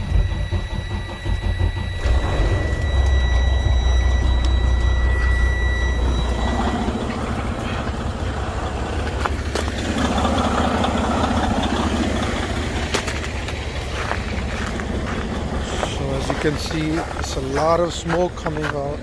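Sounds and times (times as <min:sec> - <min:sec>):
high steady whine: 0:00.0 - 0:18.8
deep hum: 0:00.0 - 0:19.0
diesel truck engine idling: 0:00.0 - 0:19.0.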